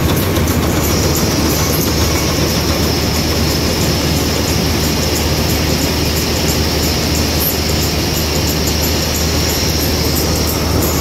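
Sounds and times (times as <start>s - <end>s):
auger high whine: 0.0s - 11.0s
combine harvester drone: 0.0s - 11.0s.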